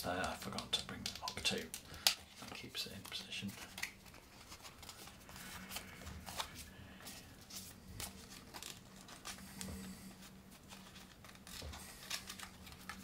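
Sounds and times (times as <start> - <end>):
paper rustling and clicking: 0.1 - 13.0.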